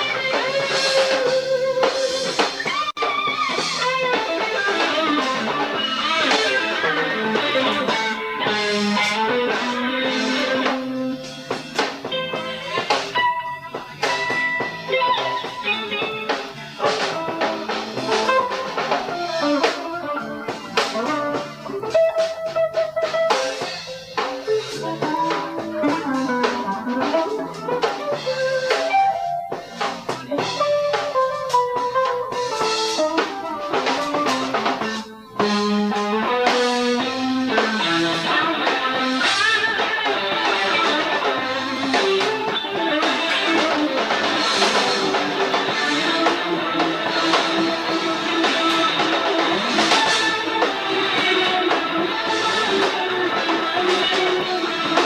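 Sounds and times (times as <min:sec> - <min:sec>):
bass guitar: 0:00.0 - 0:55.0
drum kit: 0:00.0 - 0:55.0
electric guitar lead: 0:00.0 - 0:55.0.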